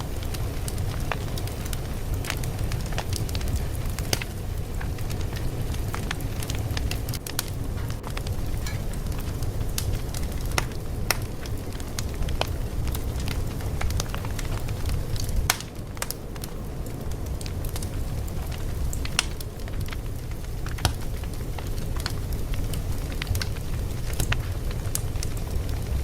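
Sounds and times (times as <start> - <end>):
fire flames rumbling: 0.0 - 26.0
fire popping and snapping: 0.0 - 26.0.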